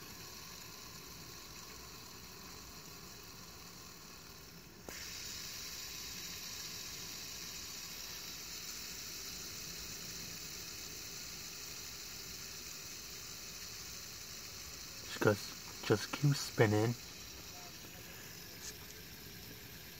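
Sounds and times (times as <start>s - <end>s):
fidget spinner click: 0.0s - 19.9s
fidget spinner whirring: 0.0s - 19.9s.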